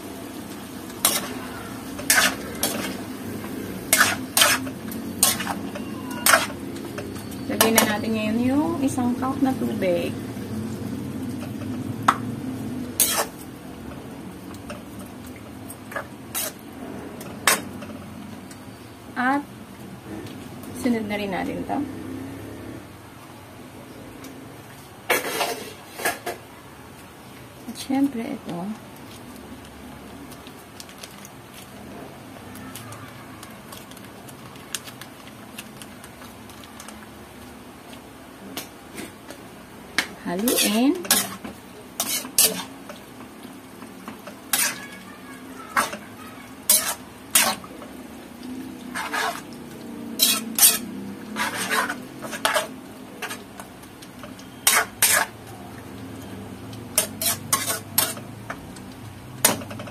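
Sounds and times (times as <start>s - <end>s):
broth simmering in wok: 0.0s - 59.9s.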